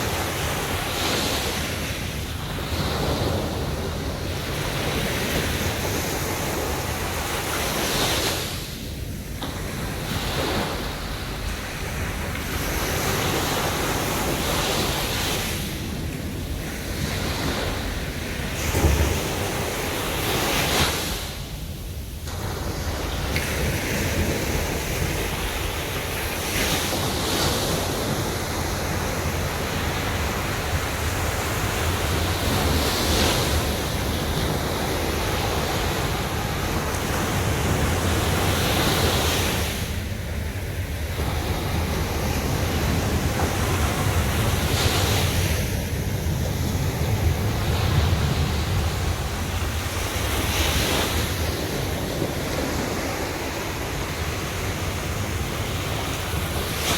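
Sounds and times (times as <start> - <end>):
sea waves breaking on beach: 0.0 - 56.9.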